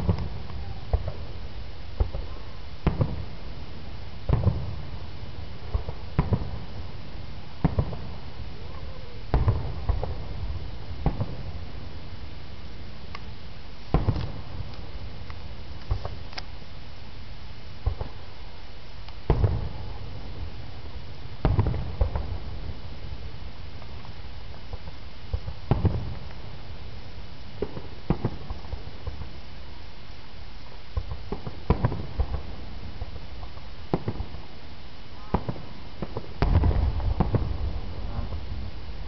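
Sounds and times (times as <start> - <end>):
fireworks booms and cracks: 0.0 - 16.6, 17.7 - 18.4, 19.0 - 29.6, 30.9 - 39.0
steady hiss: 0.0 - 39.0.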